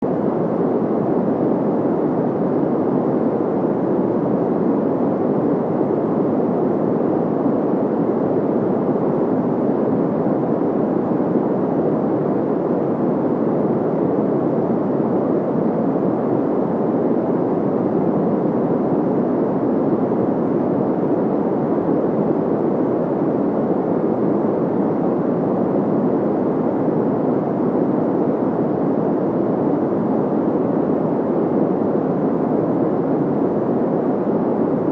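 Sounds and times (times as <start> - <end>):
low white noise rush: 0.0 - 34.9.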